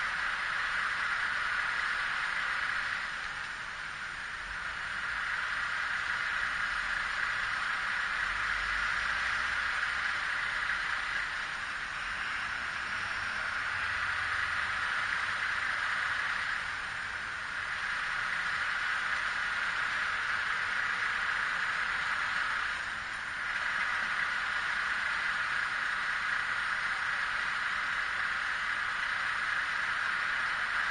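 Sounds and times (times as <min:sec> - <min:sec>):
traffic hiss: 0:00.0 - 0:30.9
trucks idling: 0:00.0 - 0:30.9.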